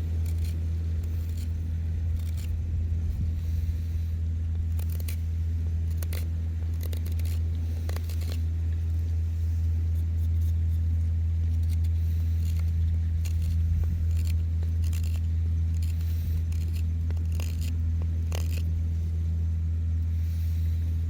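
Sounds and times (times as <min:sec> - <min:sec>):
knife scraping wood: 0:00.0 - 0:02.6, 0:03.2 - 0:19.4
steady low rumble: 0:00.0 - 0:21.0.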